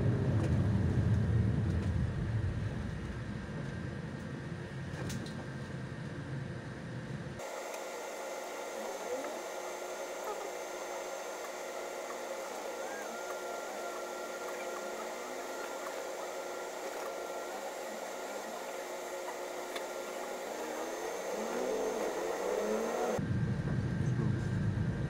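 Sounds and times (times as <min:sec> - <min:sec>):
bus accelerating: 0:00.0 - 0:05.1, 0:08.8 - 0:25.0
bus cabin hiss and hum: 0:00.0 - 0:25.0
faint steady whine: 0:00.0 - 0:25.0.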